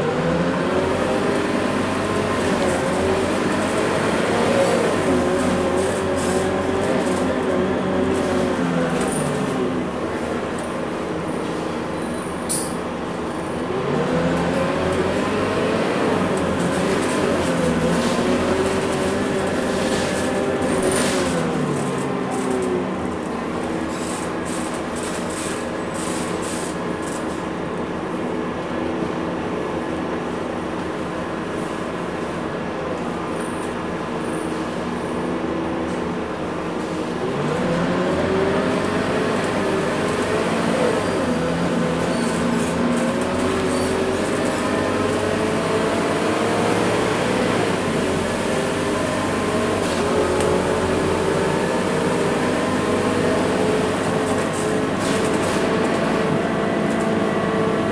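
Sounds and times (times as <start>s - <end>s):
bus diesel engine accelerating: 0.0s - 57.9s
road noise: 0.0s - 57.9s.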